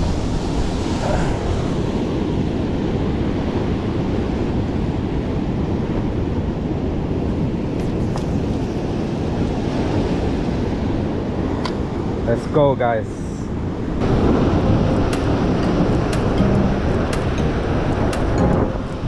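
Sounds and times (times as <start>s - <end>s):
wind buffeting microphone: 0.0s - 12.3s, 13.4s - 19.0s.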